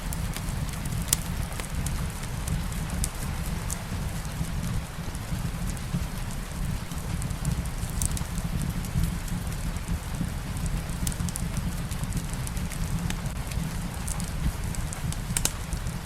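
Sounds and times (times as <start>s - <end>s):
fire pops and crackles: 0.0s - 16.0s
steady rain: 0.0s - 16.0s.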